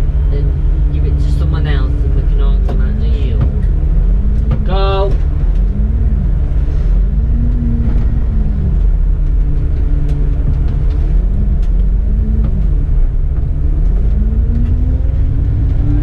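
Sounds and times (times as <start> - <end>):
bus engine rumbling: 0.0 - 16.0
drivetrain whine: 0.0 - 16.0.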